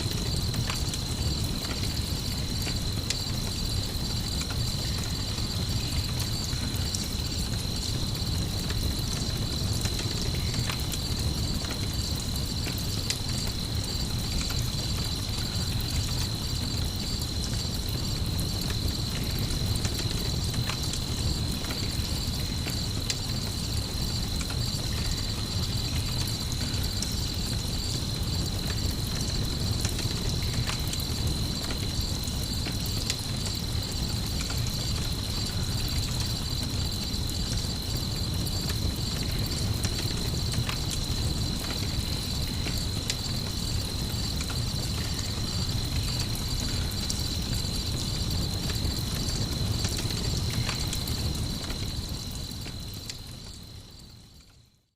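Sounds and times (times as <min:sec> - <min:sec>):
campfire crackling: 0:00.0 - 0:54.5
crickets chirping: 0:00.0 - 0:54.9.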